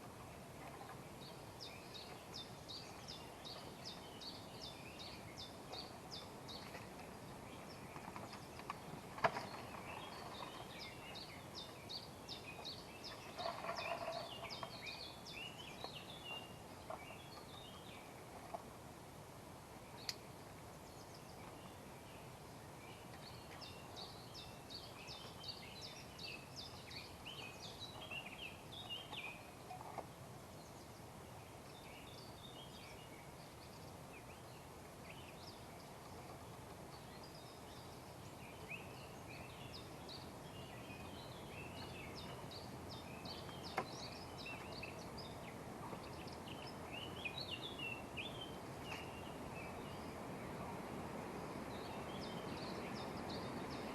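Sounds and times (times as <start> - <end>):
outdoor background hiss: 0.0 - 53.9
small birds chirping: 0.6 - 18.7, 19.8 - 53.9.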